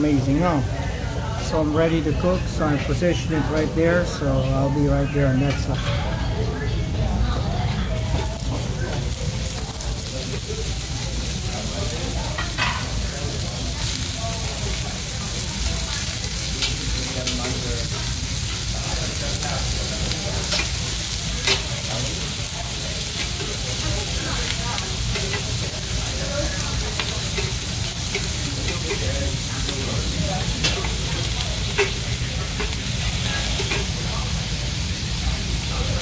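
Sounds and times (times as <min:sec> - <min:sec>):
meat sizzling on a grill: 0:06.6 - 0:36.0.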